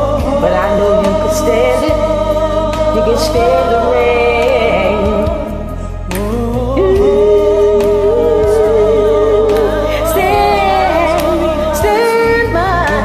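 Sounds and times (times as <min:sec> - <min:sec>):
karaoke backing track: 0:00.0 - 0:13.0
woman singing: 0:00.0 - 0:13.0.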